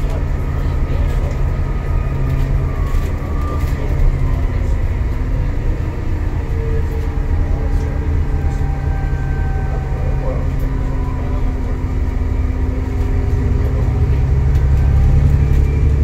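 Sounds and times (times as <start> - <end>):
bus engine and road drone: 0.0 - 16.0.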